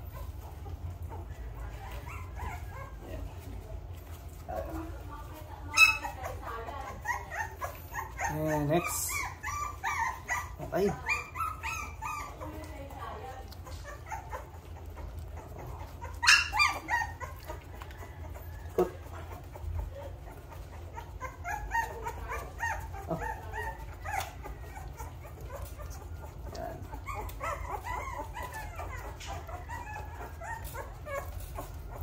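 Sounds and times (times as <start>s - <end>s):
puppies whimpering and squealing: 0.0s - 32.0s.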